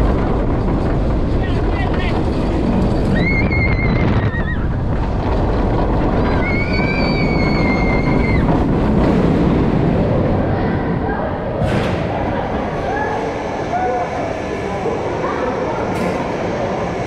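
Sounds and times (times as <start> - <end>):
wind rush over microphone: 0.0 - 13.8
roller coaster train running: 0.0 - 17.0
track rumble: 0.0 - 17.0.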